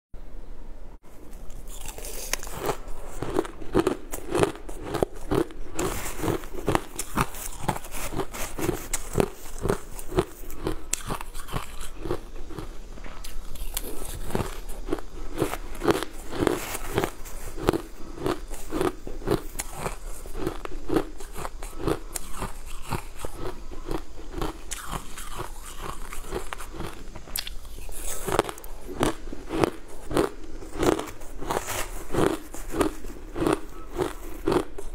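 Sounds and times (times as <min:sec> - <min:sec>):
ice being chewed with crunches: 0:01.3 - 0:34.9.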